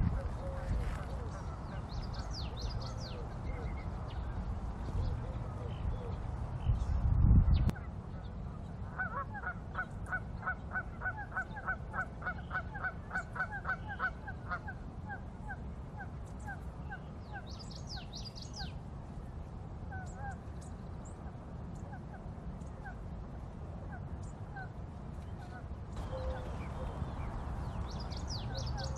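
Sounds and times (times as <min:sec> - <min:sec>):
low steady rumble: 0:00.0 - 0:28.9.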